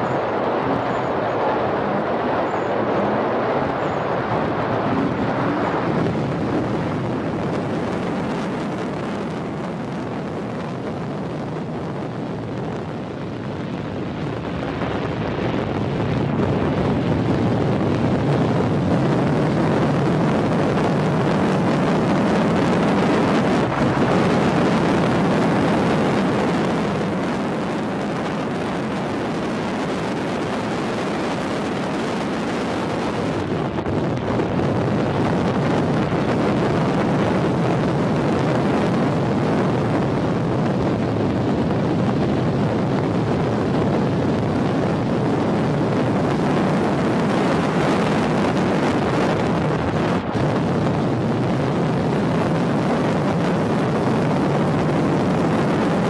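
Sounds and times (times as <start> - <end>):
motor vehicle noise: 0.0 - 56.0
wind noise on microphone: 0.0 - 56.0.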